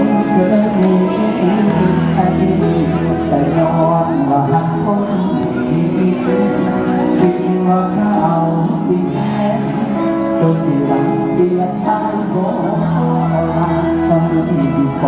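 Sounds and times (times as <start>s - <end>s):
live band playing instrumental: 0.0s - 15.0s.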